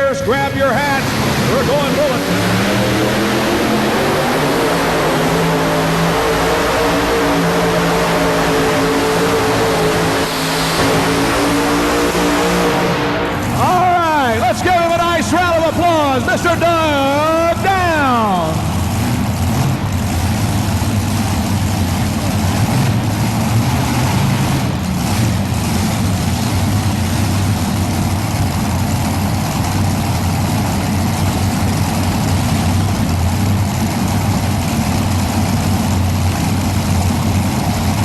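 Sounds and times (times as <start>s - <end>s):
tractor engines idling: 0.0s - 38.0s.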